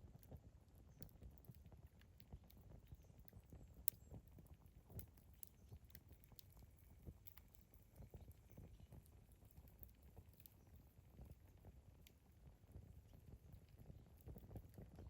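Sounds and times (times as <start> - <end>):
campfire crackling and popping: 0.0 - 15.0
low rumble of flames: 0.0 - 15.0.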